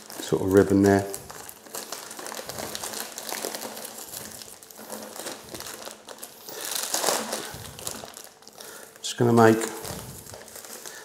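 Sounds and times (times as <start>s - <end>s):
cellophane bag crinkling: 0.0s - 11.0s.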